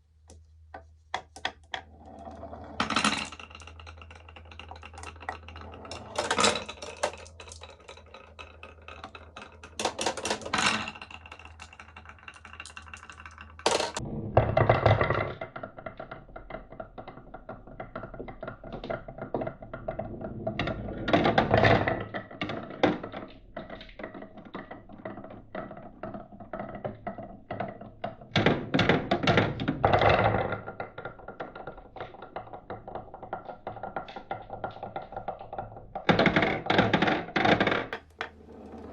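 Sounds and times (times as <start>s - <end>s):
glass marbles rolling and clicking: 1.2s - 38.9s
marbles clattering on track: 1.2s - 38.9s.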